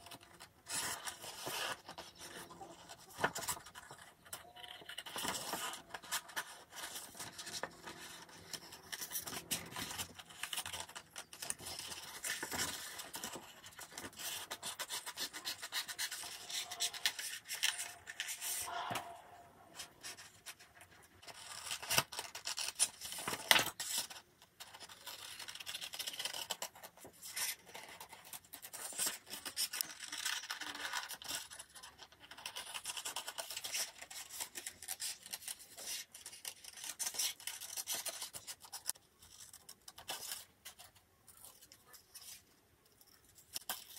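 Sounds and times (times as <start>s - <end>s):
scissors snipping paper: 0.0s - 19.2s, 19.8s - 42.4s, 43.0s - 43.9s.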